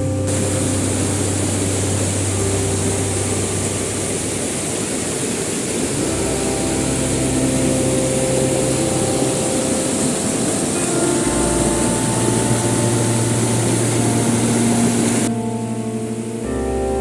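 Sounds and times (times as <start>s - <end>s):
river and waterfall rushing: 0.0s - 16.6s
low steady tones: 0.0s - 17.0s.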